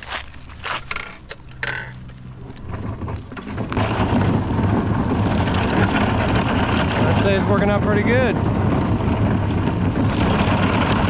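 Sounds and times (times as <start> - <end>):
trailer rumbling: 0.0 - 11.0
vehicle engine humming: 0.0 - 11.0.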